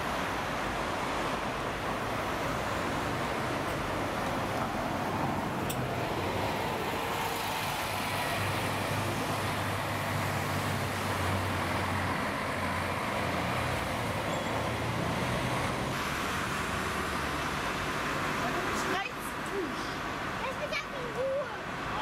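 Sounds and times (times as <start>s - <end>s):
vehicles and buses passing: 0.0s - 22.0s.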